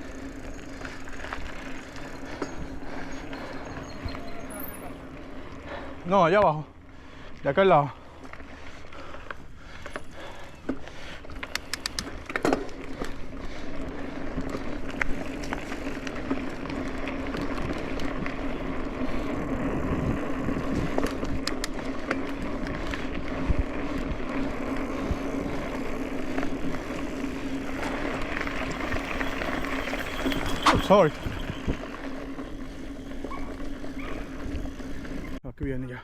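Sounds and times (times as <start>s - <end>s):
bike clicking and rattling: 0.0s - 35.4s
bike tyres rolling on trail: 0.0s - 35.4s.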